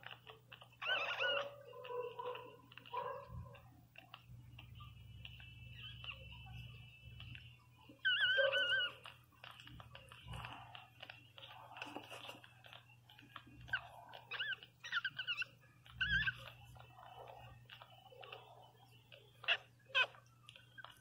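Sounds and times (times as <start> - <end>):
puppies squeaking: 0.0 - 21.0.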